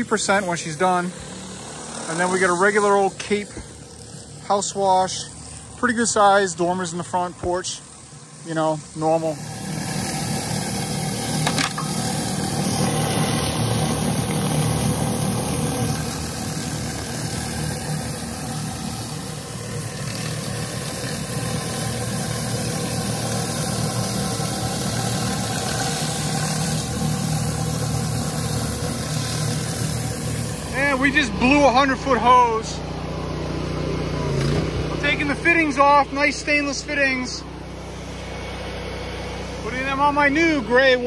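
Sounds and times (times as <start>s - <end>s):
high-pressure water hiss: 0.0s - 33.0s
pressure washer engine hum: 0.0s - 41.0s.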